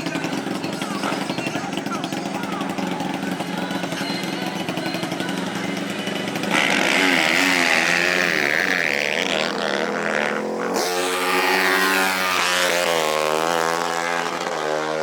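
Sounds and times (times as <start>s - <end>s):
small racing engine revving: 0.0s - 15.0s.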